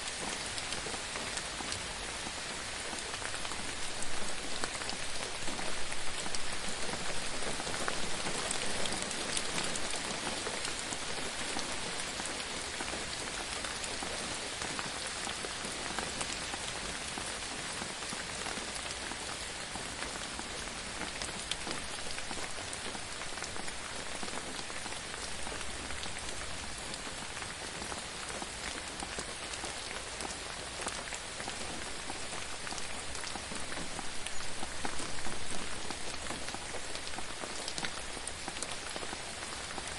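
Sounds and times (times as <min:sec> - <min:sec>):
gentle rain pattering: 0:00.0 - 0:39.9.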